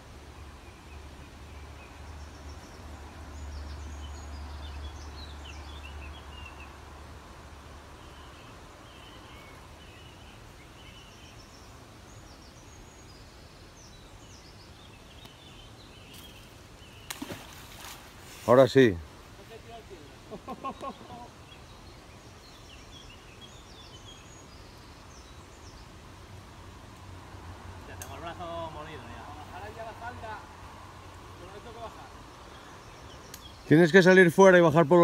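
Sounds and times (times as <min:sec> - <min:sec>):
outdoor background hiss: 0:00.0 - 0:35.0
small birds chirping: 0:00.0 - 0:35.0.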